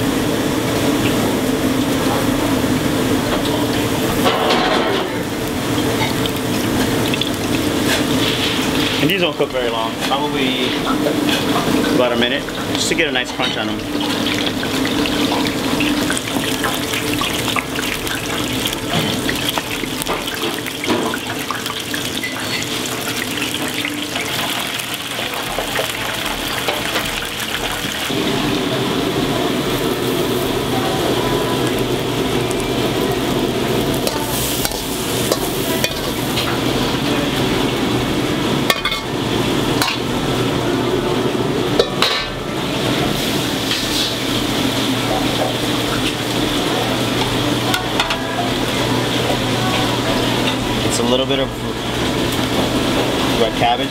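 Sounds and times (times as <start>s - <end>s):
oysters sizzling in hot oil: 0.0s - 53.9s.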